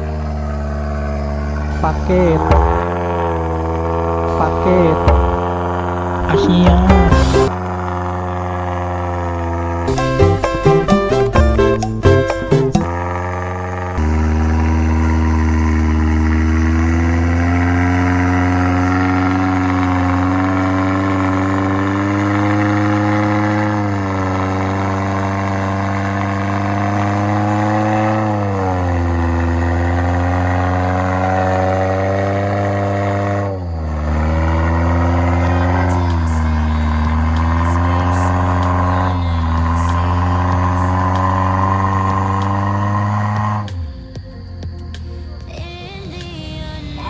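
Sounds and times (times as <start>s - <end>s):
engine running under load: 0.0s - 47.0s.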